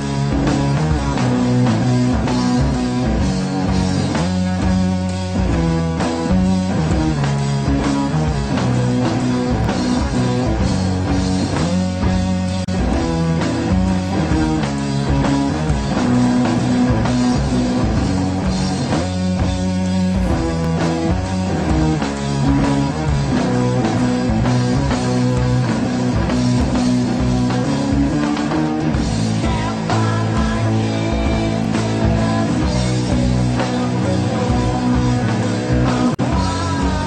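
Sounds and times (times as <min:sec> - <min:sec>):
rock music: 0:00.0 - 0:37.0.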